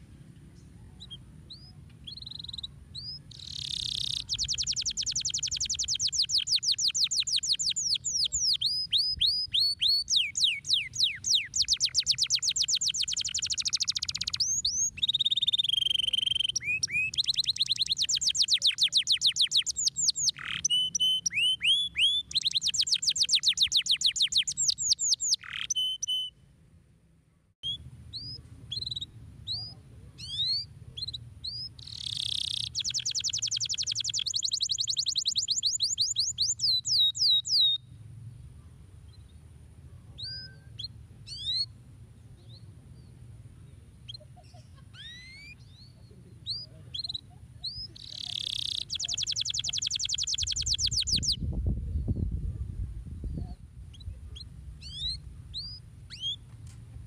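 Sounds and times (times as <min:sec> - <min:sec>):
canary singing: 0:00.9 - 0:26.4, 0:27.6 - 0:37.8, 0:40.2 - 0:41.8, 0:44.0 - 0:51.4, 0:53.4 - 0:56.5.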